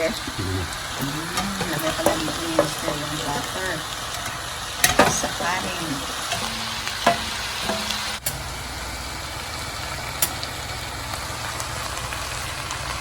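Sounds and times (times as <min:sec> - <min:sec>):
rice sizzling in a pot: 0:00.9 - 0:13.0.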